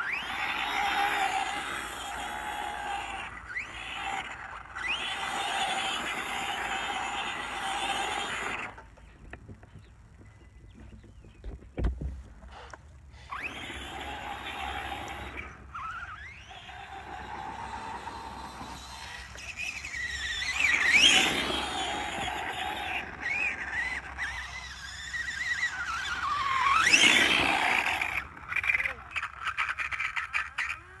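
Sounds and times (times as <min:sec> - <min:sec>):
electric motor whining: 0:00.0 - 0:09.0, 0:12.5 - 0:31.0.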